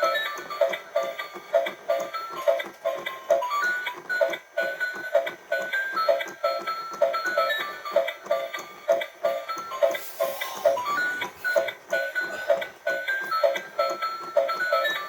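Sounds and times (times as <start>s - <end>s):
electronic toy jingle: 1.9s - 15.0s.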